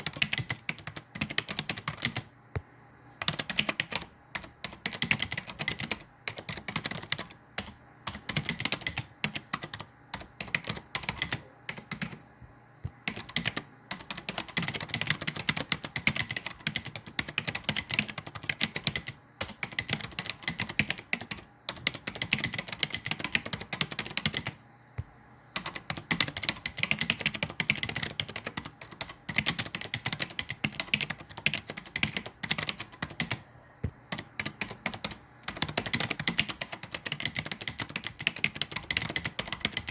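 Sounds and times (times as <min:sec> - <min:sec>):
fast typing on keyboard: 0:00.0 - 0:02.3, 0:03.2 - 0:12.2, 0:12.9 - 0:24.6, 0:25.6 - 0:33.4, 0:34.1 - 0:39.9.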